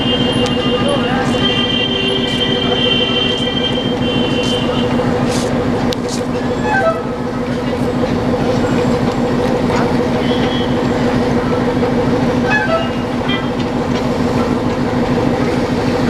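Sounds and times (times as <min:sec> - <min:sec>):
diesel locomotive idling: 0:00.0 - 0:16.0
steam locomotive rolling on track: 0:00.0 - 0:16.0.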